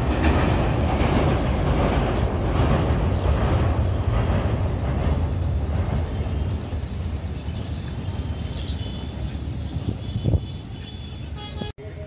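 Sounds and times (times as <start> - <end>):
train rumbling over bridge: 0.0 - 12.0.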